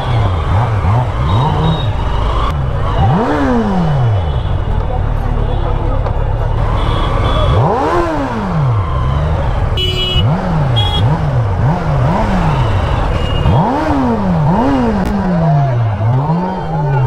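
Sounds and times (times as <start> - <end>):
motorcycle engine revving: 0.0 - 5.2, 5.9 - 17.0.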